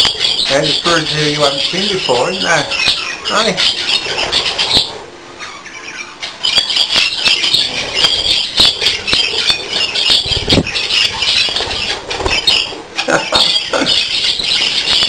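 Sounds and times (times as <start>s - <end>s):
budgerigars chattering and squawking: 0.0s - 15.0s.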